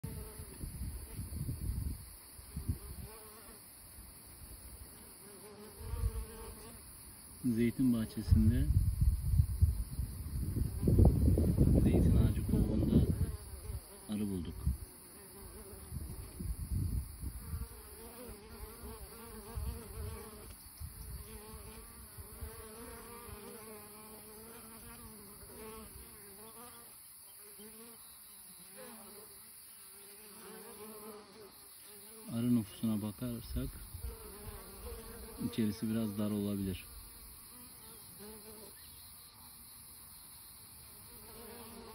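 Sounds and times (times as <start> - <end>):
honey bees buzzing: 0.0 - 1.4, 4.6 - 8.4, 10.3 - 39.6, 40.9 - 41.9.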